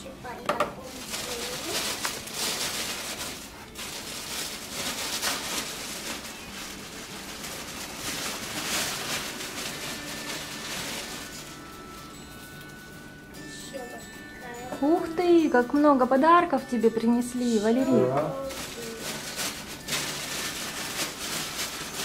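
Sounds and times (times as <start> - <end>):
crinkly wrapping rustling: 0.2 - 13.2, 17.3 - 22.0.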